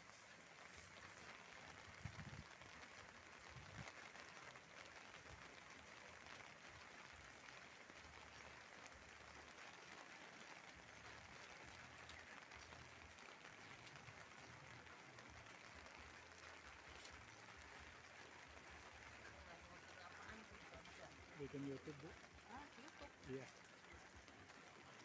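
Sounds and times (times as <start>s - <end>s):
faint steady rain: 0.0s - 25.0s.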